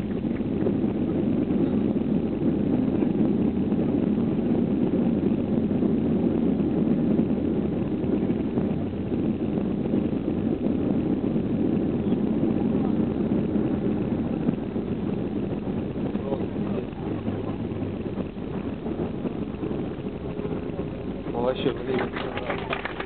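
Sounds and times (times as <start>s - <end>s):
jet engine rumble in cabin: 0.0s - 23.0s
rushing airflow: 0.0s - 23.0s.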